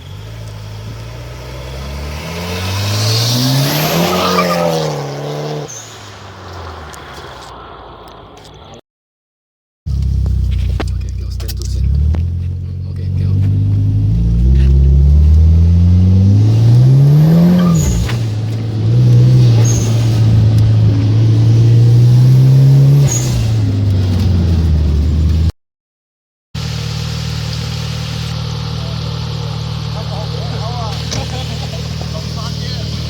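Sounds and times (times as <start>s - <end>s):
car engine revving: 0.0s - 8.8s, 9.9s - 25.5s, 26.6s - 33.0s.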